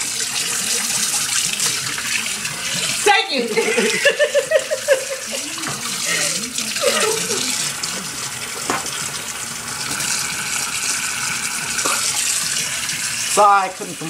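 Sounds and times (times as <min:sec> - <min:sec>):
tap water splashing into sink: 0:00.0 - 0:14.0.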